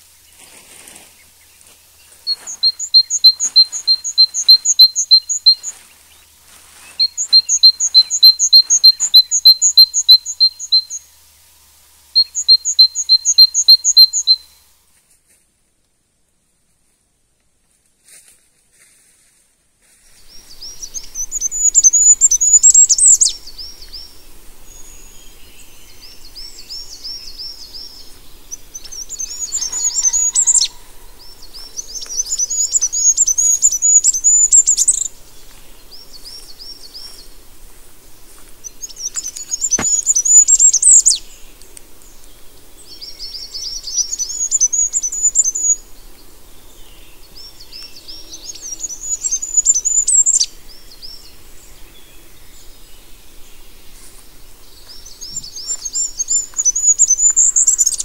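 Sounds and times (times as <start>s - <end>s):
songbird singing: 0.0s - 15.0s, 19.9s - 58.0s.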